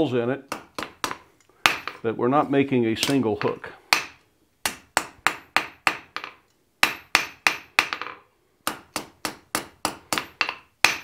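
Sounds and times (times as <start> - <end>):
hammer striking steel on anvil: 0.5 - 2.0, 3.0 - 11.0.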